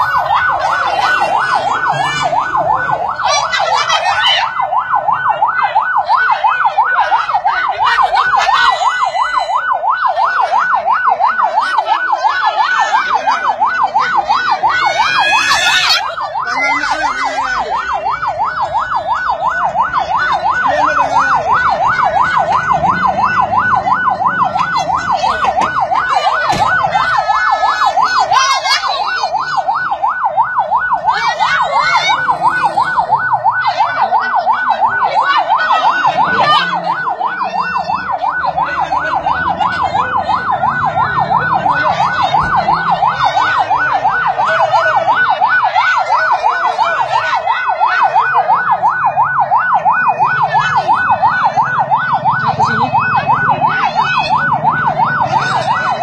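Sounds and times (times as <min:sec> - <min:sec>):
electronic siren yelping: 0:00.0 - 0:56.0.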